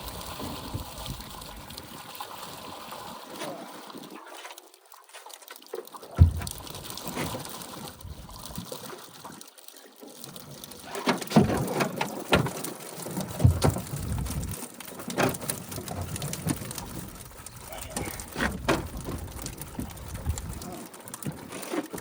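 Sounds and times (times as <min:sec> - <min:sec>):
water splashing and dripping: 0:00.0 - 0:22.0.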